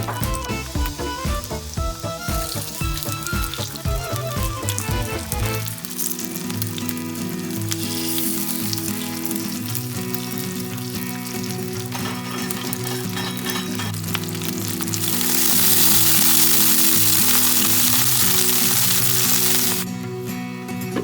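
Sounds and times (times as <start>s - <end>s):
food sizzling in hot oil: 0.0s - 19.9s.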